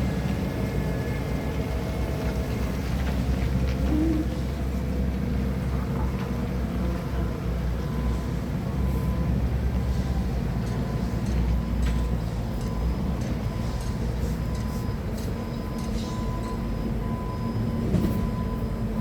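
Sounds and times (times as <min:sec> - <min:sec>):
forklift engine rumbling: 0:00.0 - 0:19.0.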